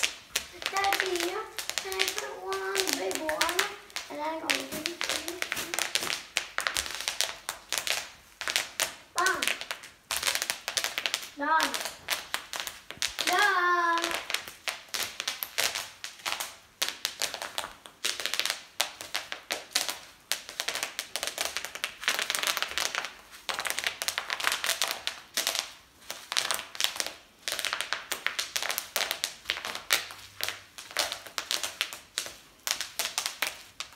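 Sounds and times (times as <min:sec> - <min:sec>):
bubble wrap popping underfoot: 0:00.0 - 0:33.9.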